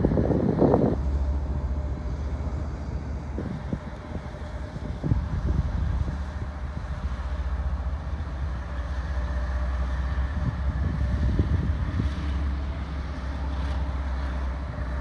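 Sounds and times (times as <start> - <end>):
locomotive engine rumbling: 0.0 - 15.0
wind buffeting microphone: 0.0 - 15.0.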